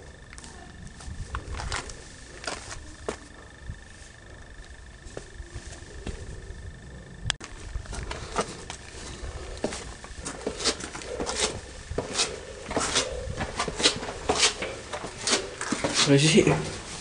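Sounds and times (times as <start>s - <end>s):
low rumble: 0.0s - 14.1s.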